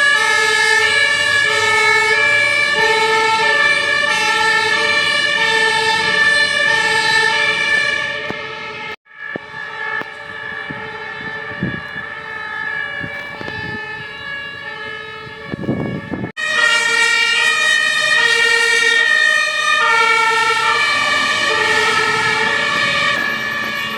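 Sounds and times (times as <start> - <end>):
two-tone fire engine sirens: 0.0 - 23.9.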